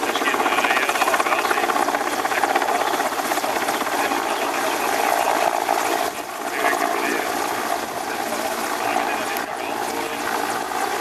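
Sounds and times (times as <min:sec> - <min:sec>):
helicopter engine noise: 0:00.0 - 0:11.0
helicopter rotor beating: 0:00.0 - 0:11.0.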